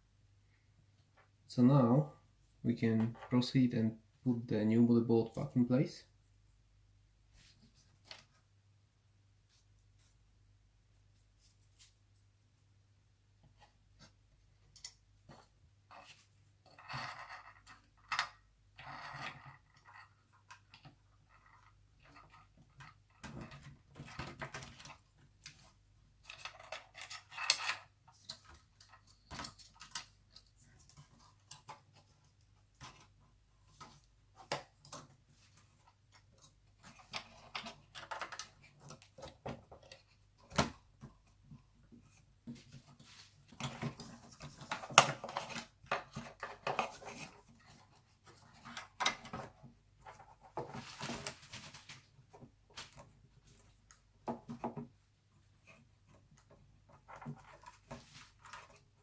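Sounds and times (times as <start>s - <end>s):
rustling and scraping: 7.3s - 8.5s, 11.0s - 12.3s, 13.4s - 59.0s.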